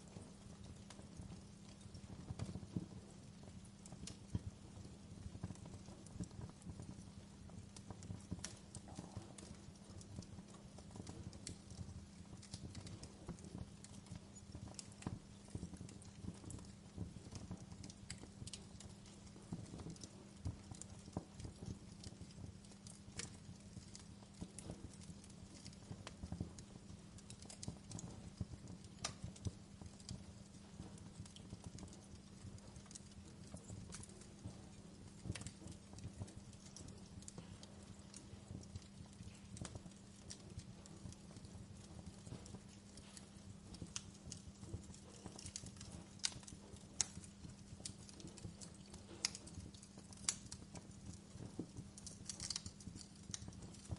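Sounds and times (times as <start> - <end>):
low rumble of flames: 0.0 - 53.9
wood fire crackling: 0.0 - 53.9.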